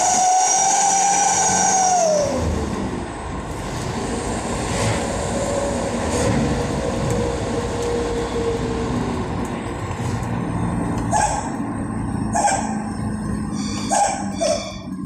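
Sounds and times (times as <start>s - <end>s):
engine exhaust rumble: 1.8s - 15.0s.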